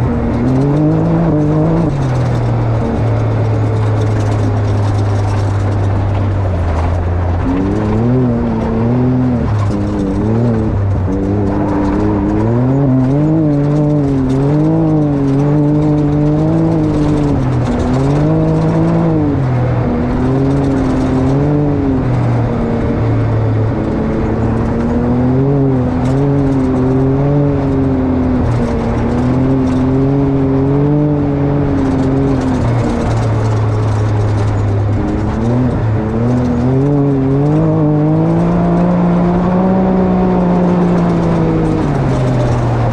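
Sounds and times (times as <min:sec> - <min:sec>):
engine revving up and down: 0:00.0 - 0:42.9.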